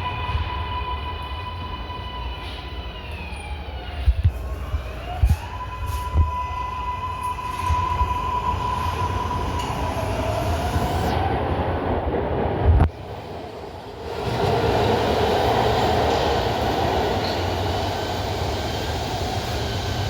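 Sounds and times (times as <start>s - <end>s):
electric train motors whining: 0.0s - 11.6s, 12.8s - 20.0s.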